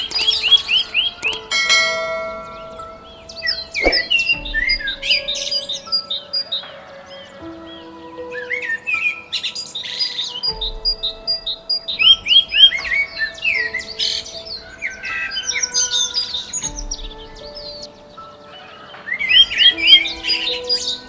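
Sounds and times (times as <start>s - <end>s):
background music with held notes: 0.0s - 21.0s
birds chirping: 0.0s - 21.0s.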